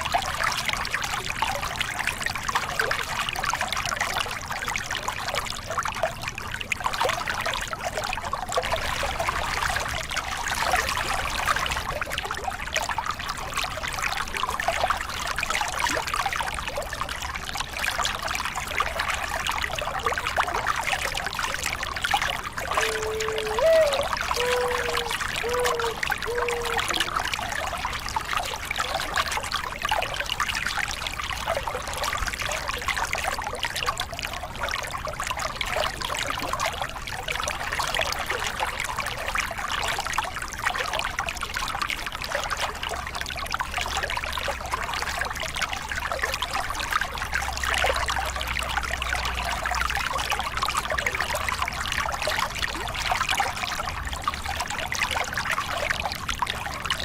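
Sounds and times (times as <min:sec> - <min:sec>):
low water rumble: 0:00.0 - 0:57.0
water splashing over cascade: 0:00.0 - 0:57.0.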